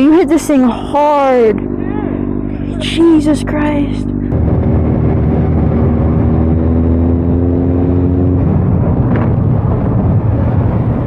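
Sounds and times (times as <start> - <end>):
road and wind noise: 0.0 - 11.0
vehicle engine running: 0.0 - 11.0
whine with rising pitch: 0.8 - 11.0.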